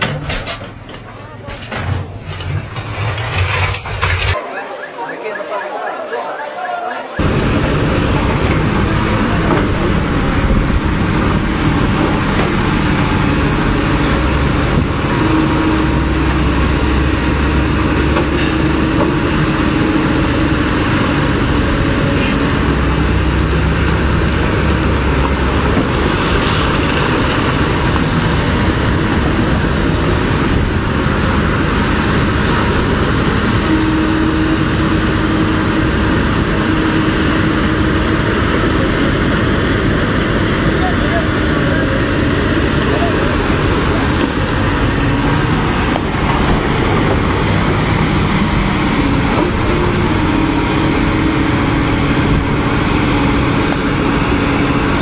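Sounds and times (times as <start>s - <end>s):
excavator diesel engines roaring: 0.0s - 55.0s.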